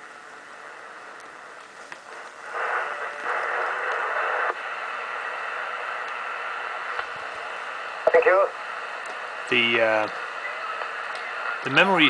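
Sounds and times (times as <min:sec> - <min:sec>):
radio receiver static hiss: 0:00.0 - 0:12.0.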